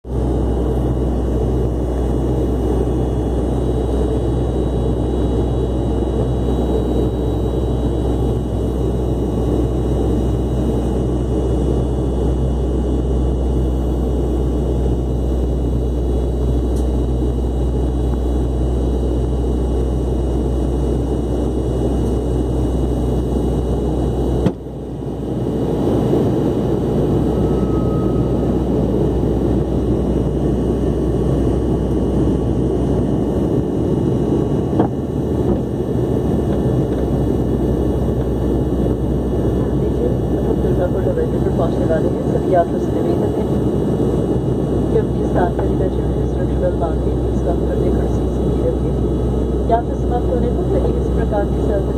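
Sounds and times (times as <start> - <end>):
airliner engine drone: 0.0 - 51.9
low hum: 0.0 - 51.9.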